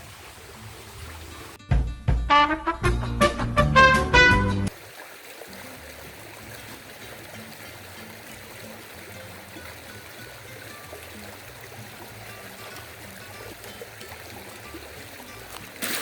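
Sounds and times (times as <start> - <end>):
river water flowing: 0.0 - 1.6, 4.7 - 16.0.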